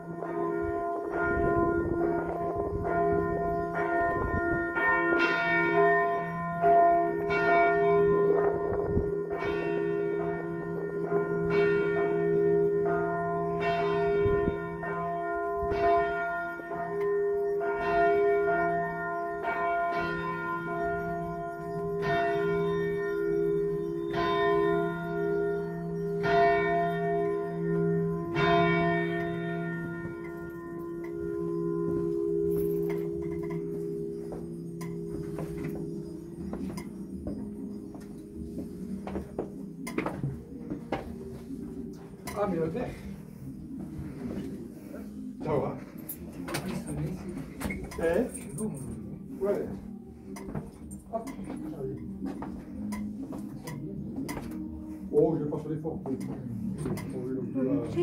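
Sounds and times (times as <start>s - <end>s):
church bell tolling: 0.0s - 58.0s.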